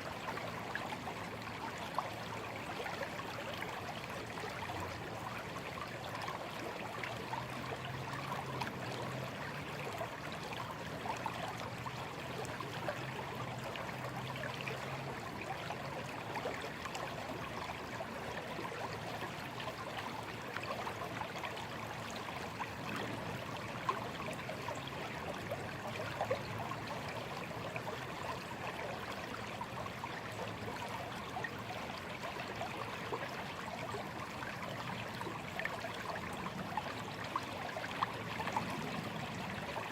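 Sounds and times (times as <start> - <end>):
small stream trickling: 0.0 - 39.9.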